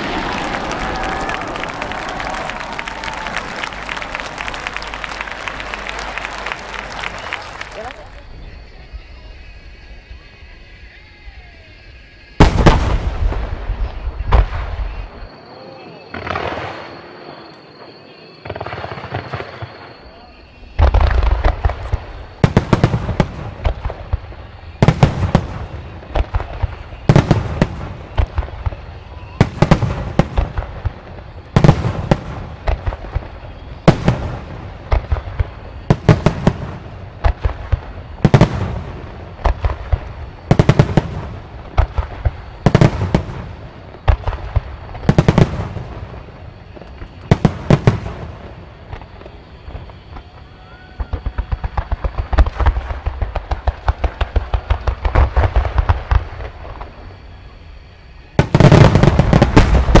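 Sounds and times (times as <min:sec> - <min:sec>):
fireworks booming: 0:00.0 - 0:10.3, 0:12.4 - 1:00.0.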